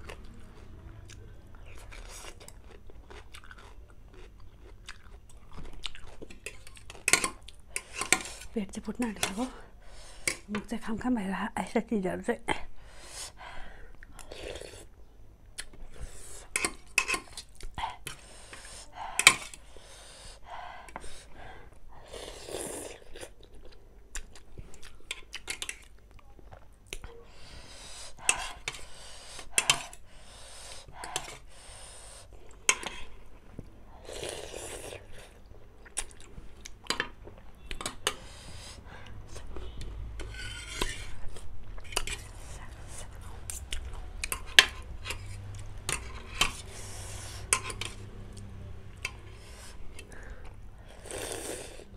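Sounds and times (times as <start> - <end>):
person chewing noodles: 0.0 - 8.6, 14.0 - 51.9.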